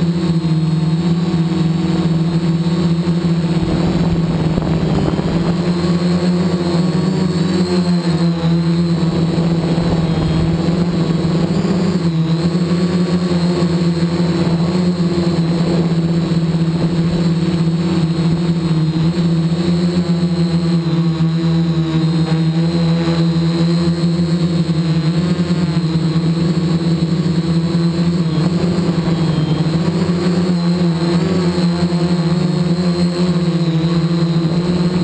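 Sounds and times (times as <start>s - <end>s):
drone motors buzzing: 0.0s - 35.0s.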